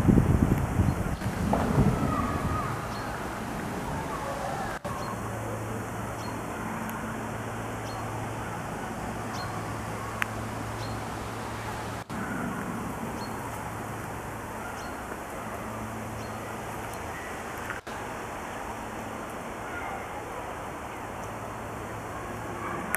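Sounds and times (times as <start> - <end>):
wind rushing through trees: 0.0 - 22.9.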